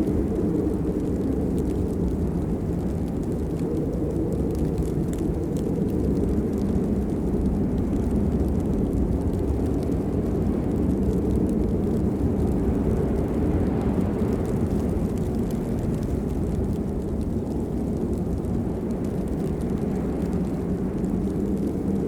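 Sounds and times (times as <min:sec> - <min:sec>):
raindrop ticks: 0:00.0 - 0:22.0
steady rain: 0:00.0 - 0:22.0.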